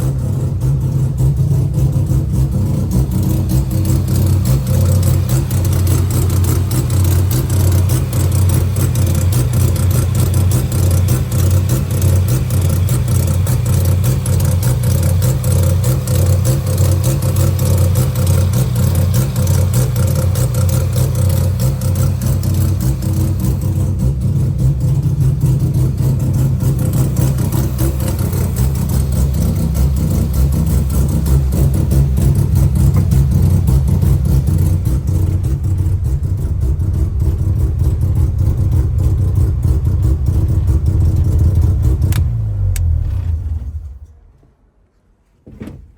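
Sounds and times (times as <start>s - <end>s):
rotary engine idling unevenly: 0.0s - 42.2s.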